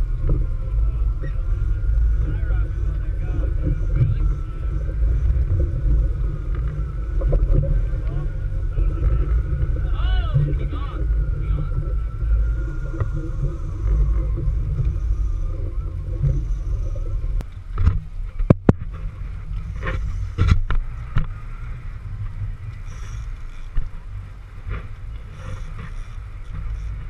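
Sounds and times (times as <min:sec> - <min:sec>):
wind and water rumble: 0:00.0 - 0:27.0.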